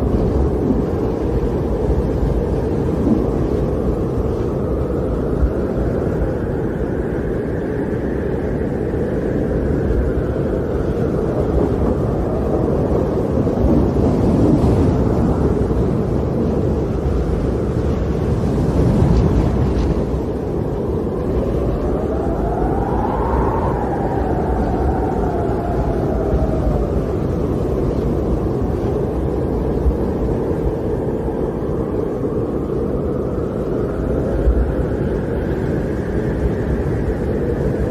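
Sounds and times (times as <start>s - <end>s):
howling snowstorm wind: 0.0s - 37.9s.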